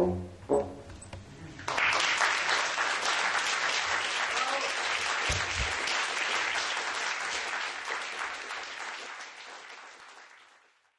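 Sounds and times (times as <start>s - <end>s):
audience applauding: 1.6s - 10.9s.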